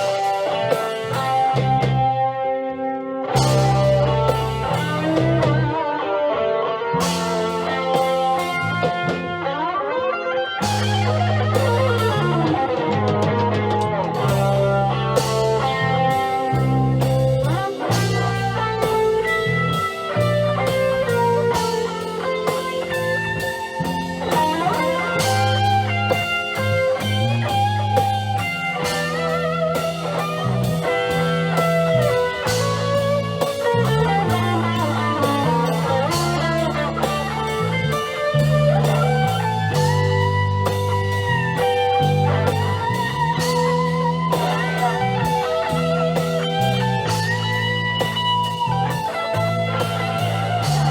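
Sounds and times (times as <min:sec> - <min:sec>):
bass guitar: 0:00.0 - 0:50.9
drums: 0:00.0 - 0:50.9
electric guitar lead: 0:00.0 - 0:50.9.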